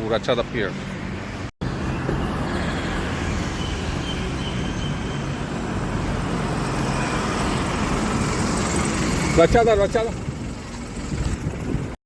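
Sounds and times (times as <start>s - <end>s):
traffic: 0.0s - 12.0s
low engine hum: 1.6s - 12.0s.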